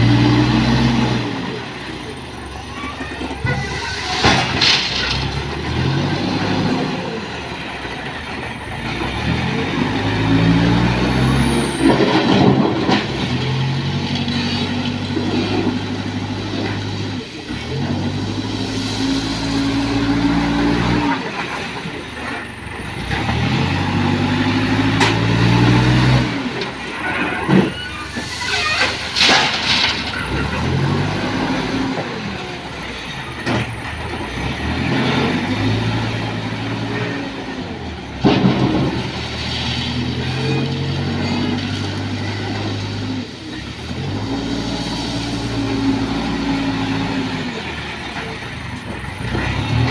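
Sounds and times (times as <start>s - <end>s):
backhoe diesel engine revving: 0.0s - 4.2s, 5.0s - 49.9s.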